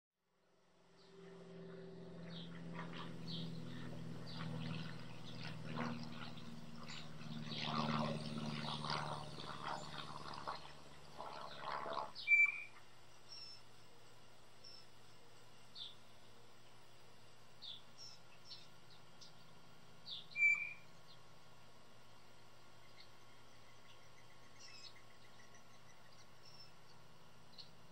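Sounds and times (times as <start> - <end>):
low steady drone: 0.4 - 27.9.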